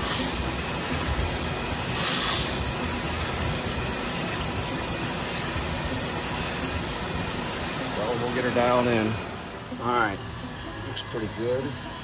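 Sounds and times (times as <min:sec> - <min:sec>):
crankshaft grinder hissing: 0:00.0 - 0:11.9.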